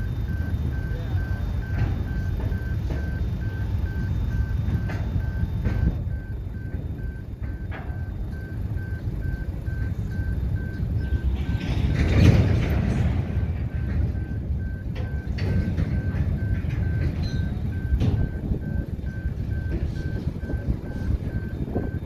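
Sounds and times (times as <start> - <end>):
wagons rumbling on track: 0.0 - 22.0
wheels clacking: 0.0 - 22.0.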